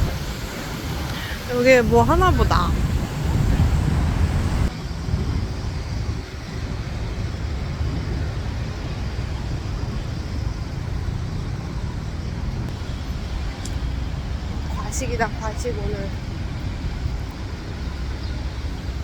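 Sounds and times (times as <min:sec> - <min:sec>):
road vehicle rumble: 0:00.0 - 0:19.0.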